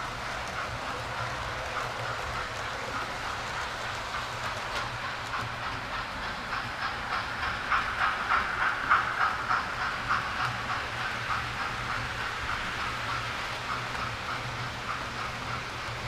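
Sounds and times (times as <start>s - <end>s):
model train rhythmic pulsing: 0.0s - 16.0s.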